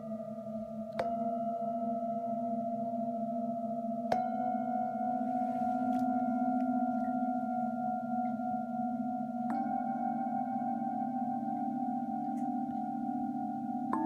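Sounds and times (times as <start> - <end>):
singing bowls ringing: 0.0 - 14.0.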